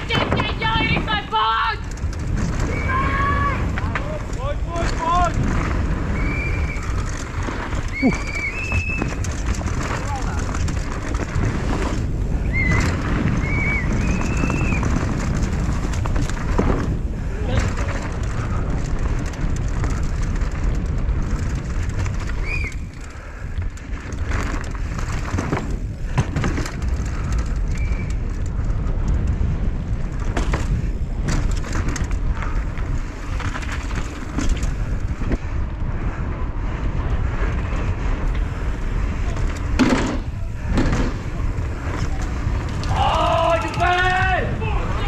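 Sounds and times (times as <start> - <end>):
bike knocking and rattling: 0.0 - 45.0
tyres rumbling: 0.0 - 45.0
wind on microphone: 0.0 - 45.0.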